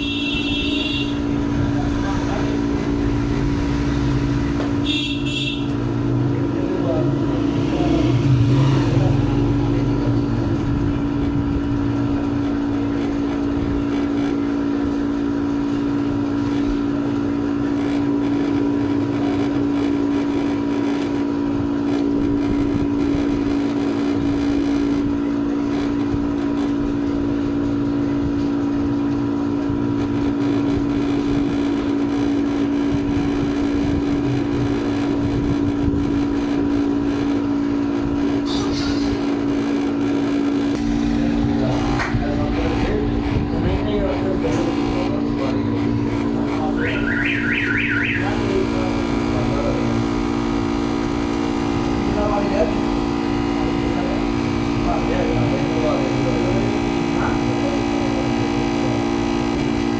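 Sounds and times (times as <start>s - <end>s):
small motor humming: 0.0s - 59.9s.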